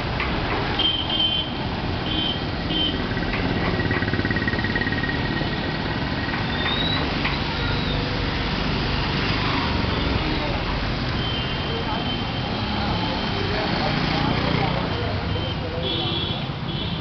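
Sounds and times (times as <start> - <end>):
traffic engine rumble: 0.0 - 17.0.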